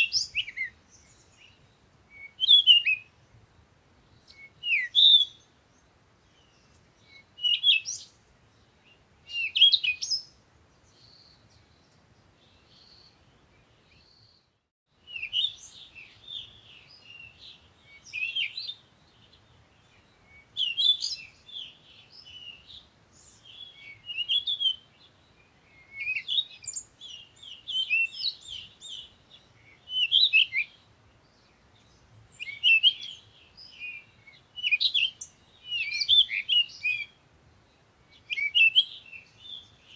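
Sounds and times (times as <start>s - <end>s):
soft whistled bird notes: 0.0s - 39.9s
songbirds chirping: 0.0s - 39.9s.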